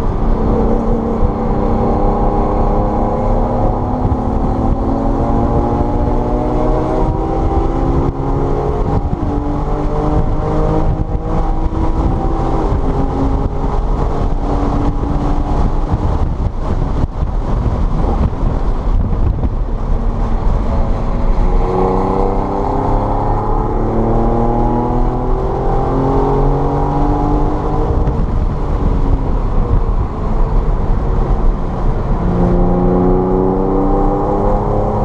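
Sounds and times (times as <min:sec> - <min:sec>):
car engine accelerating: 0:00.0 - 0:35.0
road and spray rumble: 0:00.0 - 0:35.0.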